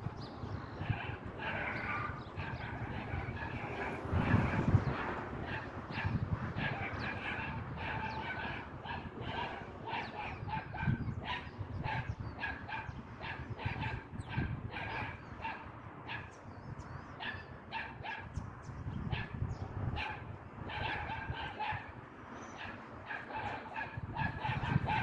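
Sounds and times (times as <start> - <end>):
dogs barking: 0.8 - 16.4, 17.1 - 18.4, 19.1 - 25.0.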